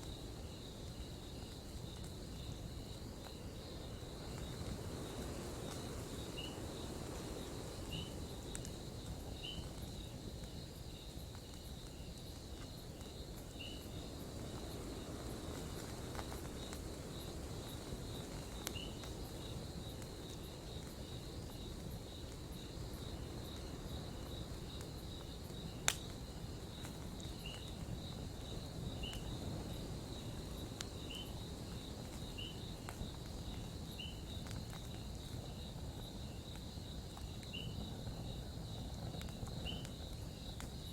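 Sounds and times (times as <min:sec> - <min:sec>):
campfire crackling and popping: 0:00.0 - 0:40.9
crickets chirping: 0:00.0 - 0:40.9
low rumble of fire: 0:00.0 - 0:40.9.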